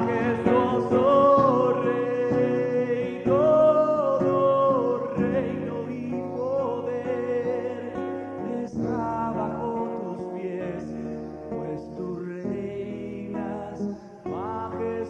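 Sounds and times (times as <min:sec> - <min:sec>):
worship music: 0:00.0 - 0:15.0.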